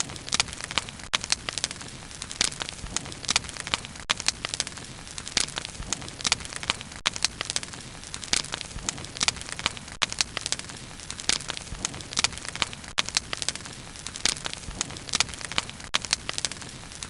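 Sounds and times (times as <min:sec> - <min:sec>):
bonfire crackling and popping: 0:00.0 - 0:17.0
low hiss of burning: 0:00.0 - 0:17.0.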